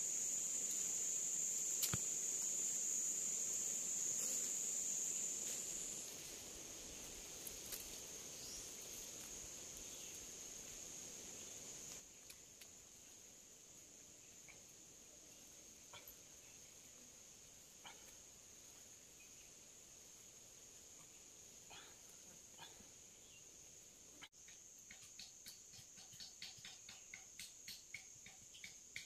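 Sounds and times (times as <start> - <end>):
forest insects droning: 0.0 - 29.0.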